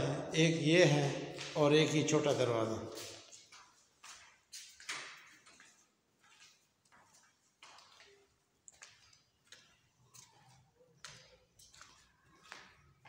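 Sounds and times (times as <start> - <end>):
footsteps on tiled floor: 0.9 - 13.0.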